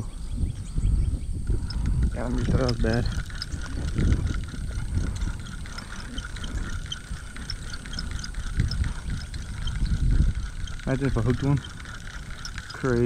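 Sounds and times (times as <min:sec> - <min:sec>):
low rumble on microphone: 0:00.0 - 0:13.0
fishing reel whirring and clicking: 0:00.4 - 0:13.0.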